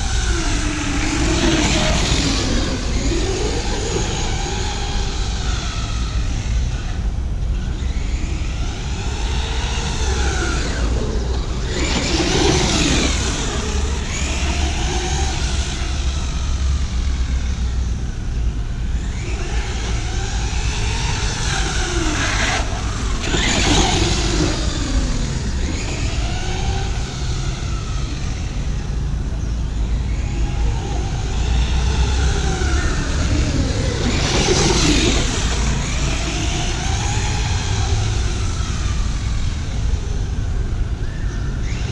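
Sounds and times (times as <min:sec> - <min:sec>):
toy truck electric motor whining: 0:00.0 - 0:18.2, 0:18.8 - 0:41.9.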